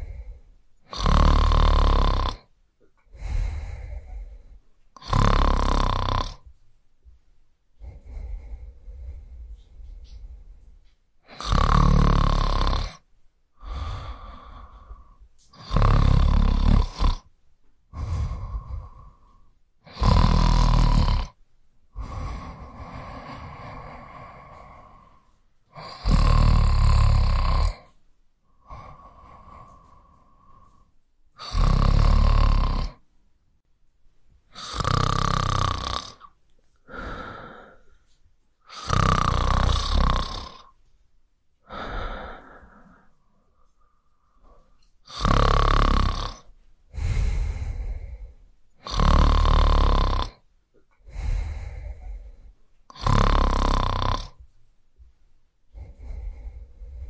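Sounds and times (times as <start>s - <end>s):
person snoring: 0.0s - 2.5s, 3.1s - 6.5s, 7.8s - 10.6s, 11.2s - 13.0s, 13.6s - 17.3s, 17.9s - 33.0s, 34.5s - 38.0s, 38.6s - 40.8s, 41.6s - 50.4s, 51.0s - 54.4s, 55.7s - 57.0s.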